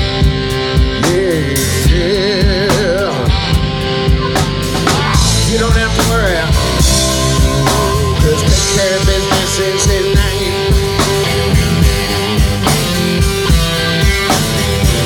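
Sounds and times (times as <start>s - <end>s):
guitar lead line bending pitch: 0.0s - 15.0s
live rock band playing: 0.0s - 15.0s.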